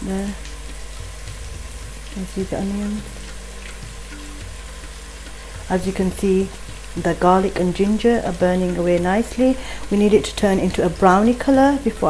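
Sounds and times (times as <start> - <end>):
hot oil sizzling and crackling: 0.0 - 12.0
quiet background music: 0.0 - 12.0.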